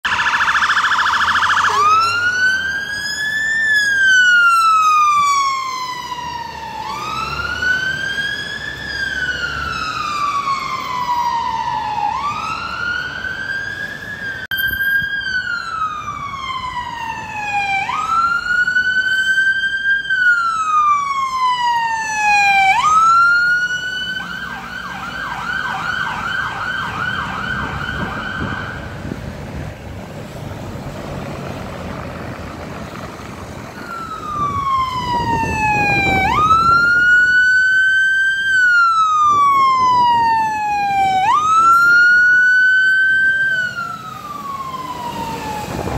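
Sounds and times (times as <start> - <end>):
fire engine siren: 0.0 - 45.9.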